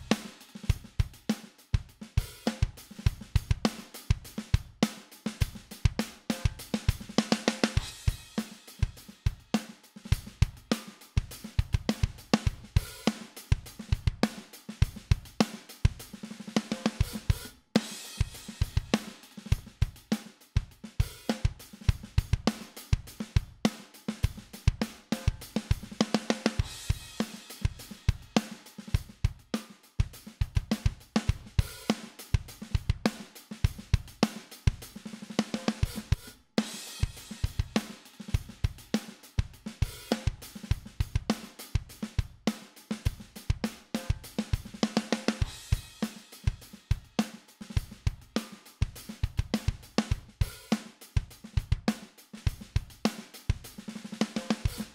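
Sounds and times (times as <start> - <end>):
drum kit groove: 0.0 - 54.9.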